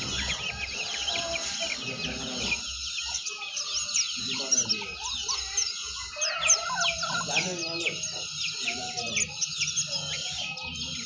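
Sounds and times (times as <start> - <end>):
bird twittering song: 0.0 - 11.0.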